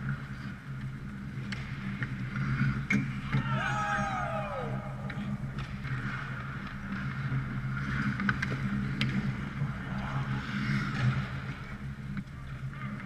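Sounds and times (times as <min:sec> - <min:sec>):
skates scraping on ice: 0:00.0 - 0:04.4, 0:05.0 - 0:13.0
hockey sticks and puck clacking: 0:00.0 - 0:13.0.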